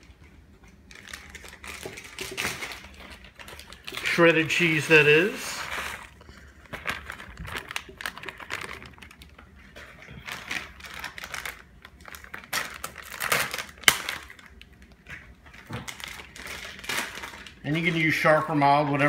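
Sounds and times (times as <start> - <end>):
plastic bag rustling and crinkling: 0.0 - 19.0.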